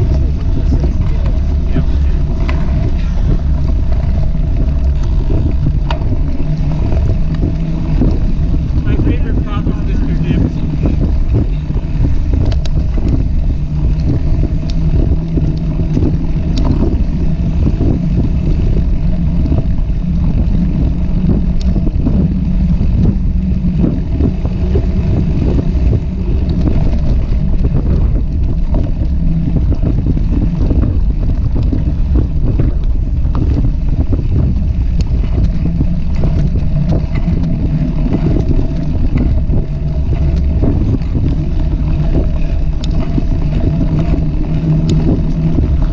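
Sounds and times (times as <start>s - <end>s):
bike tyres rolling on dirt: 0.0s - 45.9s
wind noise on microphone: 0.0s - 45.9s.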